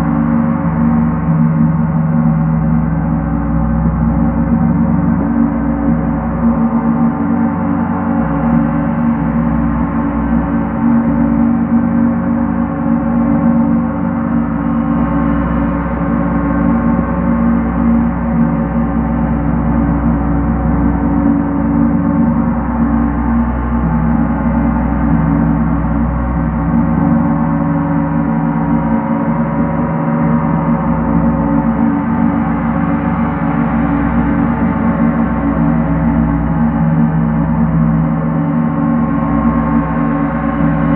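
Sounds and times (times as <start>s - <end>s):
large gong ringing: 0.0s - 40.9s.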